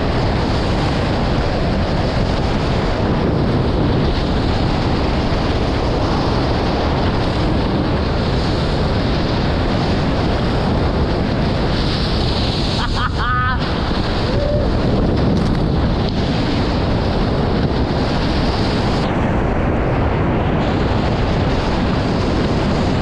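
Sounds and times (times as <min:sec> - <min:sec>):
water rushing: 0:00.0 - 0:23.0
wind blasting the microphone: 0:00.0 - 0:23.0.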